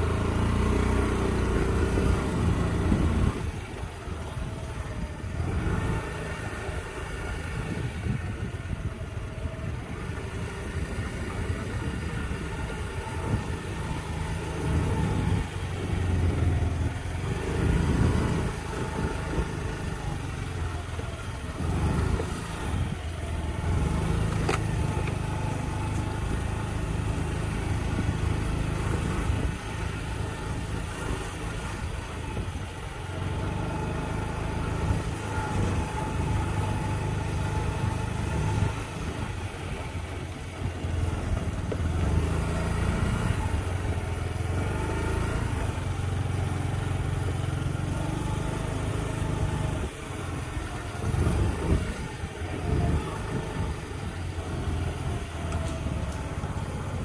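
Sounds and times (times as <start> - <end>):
small motorcycle engine: 0.0 - 57.0.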